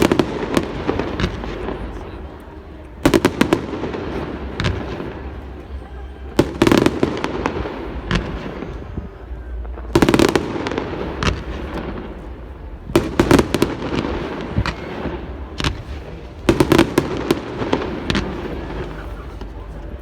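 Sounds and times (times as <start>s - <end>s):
fireworks bangs: 0.0s - 20.0s
fireworks cracks: 0.0s - 20.0s.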